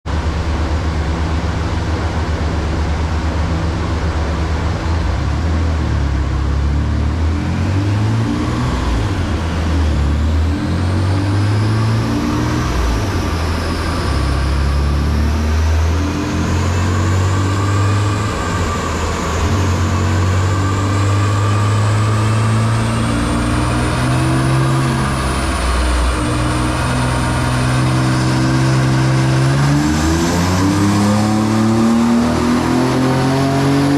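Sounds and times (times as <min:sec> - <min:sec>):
high turbo whine: 0:00.0 - 0:33.9
car engine revving: 0:00.1 - 0:33.9.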